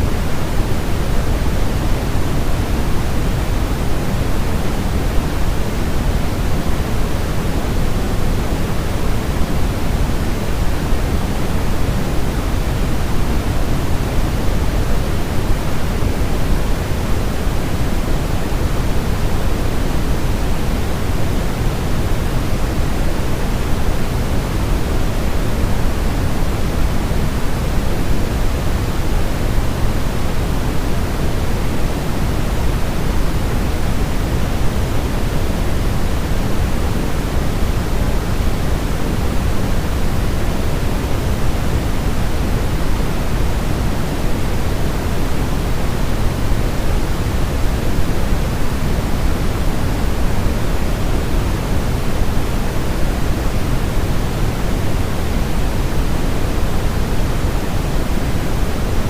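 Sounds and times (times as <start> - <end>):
low white noise rush: 0.0 - 59.0.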